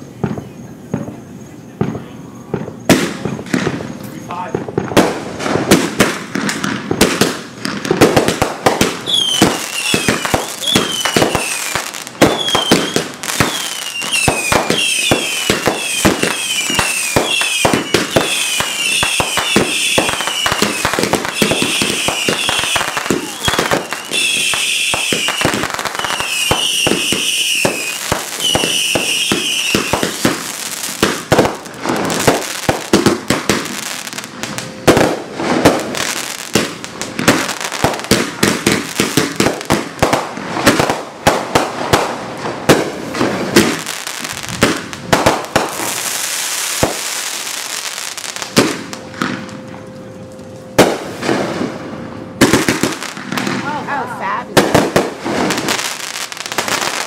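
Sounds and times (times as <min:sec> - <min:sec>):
firework hiss: 0:00.0 - 0:49.0, 0:50.8 - 0:57.0
firework bangs and crackles: 0:00.0 - 0:57.0
firework whistling: 0:00.0 - 0:57.0.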